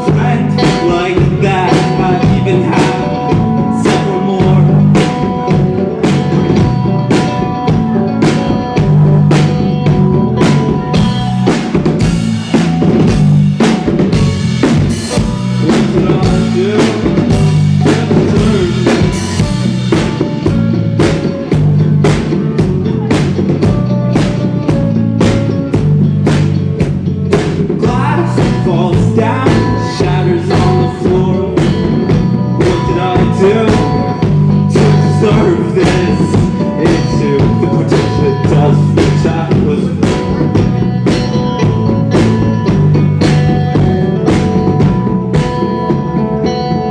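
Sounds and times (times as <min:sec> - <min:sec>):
drum kit beat: 0:00.0 - 0:46.9
live rock band playing: 0:00.0 - 0:46.9.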